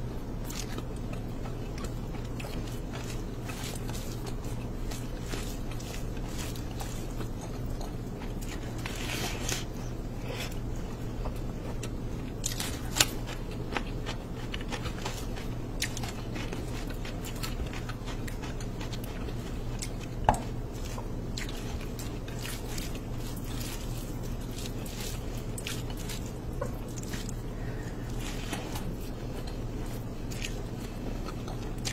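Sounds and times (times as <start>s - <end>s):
hand squishing rice and gravy: 0.4s - 31.9s.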